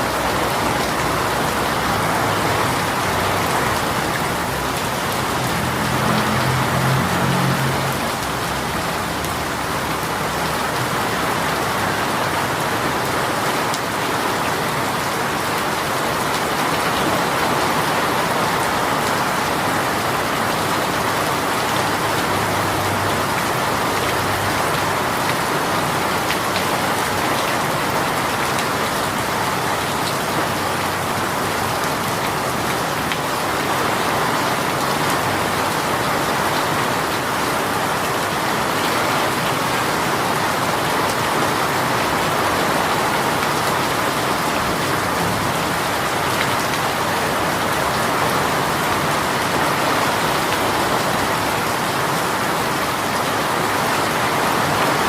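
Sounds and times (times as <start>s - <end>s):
heavy rain shower: 0.0s - 55.0s.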